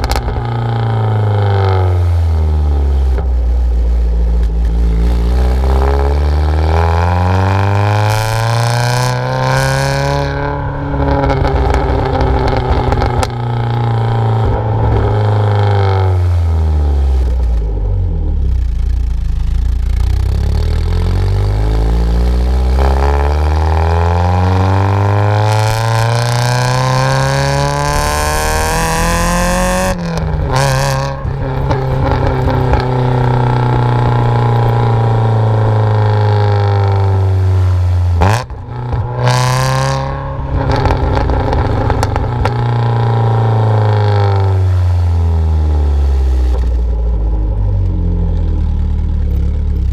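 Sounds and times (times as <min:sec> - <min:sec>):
car engine revving: 0:00.0 - 0:49.9
exhaust crackles: 0:00.0 - 0:49.9.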